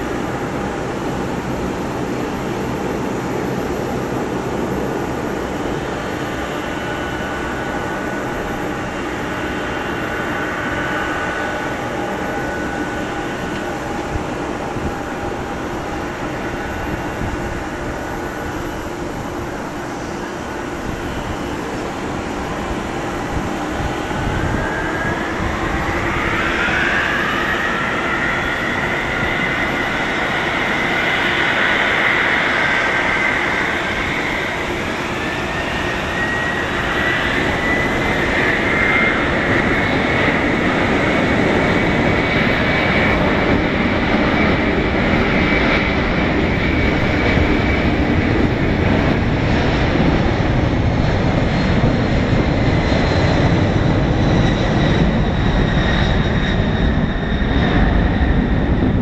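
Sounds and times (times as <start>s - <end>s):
jet engines at takeoff thrust: 0.0s - 59.0s.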